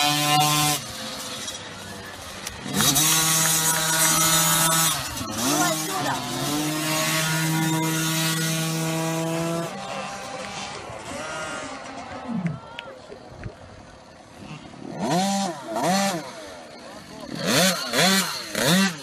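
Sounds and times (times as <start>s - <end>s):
motocross bike engines buzzing: 0.0s - 19.0s.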